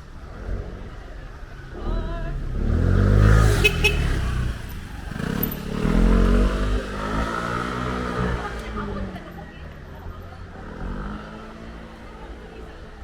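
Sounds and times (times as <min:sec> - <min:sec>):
vehicles driving past: 0:00.0 - 0:13.0.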